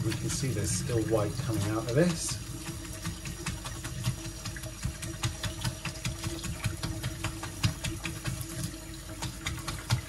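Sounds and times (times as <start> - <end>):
tap water splashing in sink: 0.0 - 10.0.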